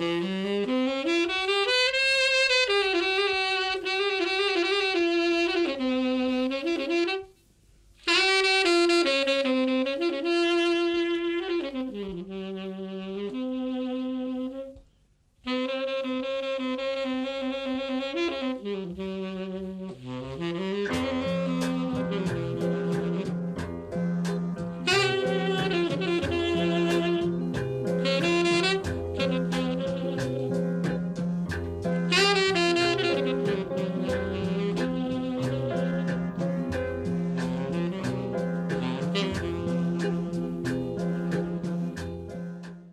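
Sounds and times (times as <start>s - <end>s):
solo saxophone melody: 0.0s - 7.4s, 8.0s - 42.9s.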